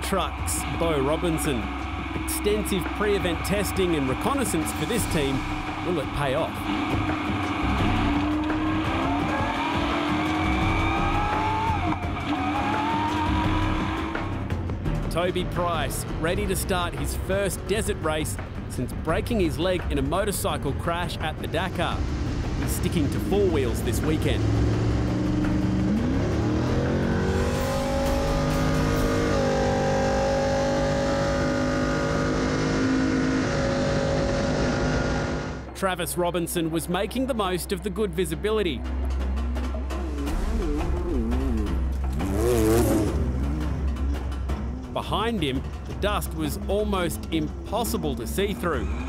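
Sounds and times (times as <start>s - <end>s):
truck engine accelerating: 0.0s - 35.7s, 38.8s - 49.0s.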